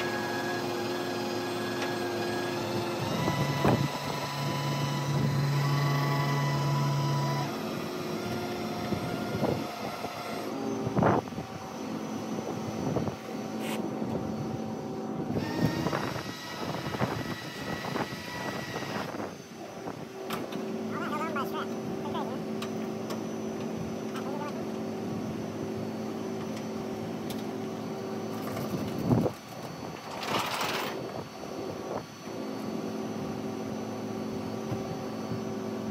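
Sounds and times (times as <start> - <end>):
tow truck engine and winch: 0.0 - 35.9.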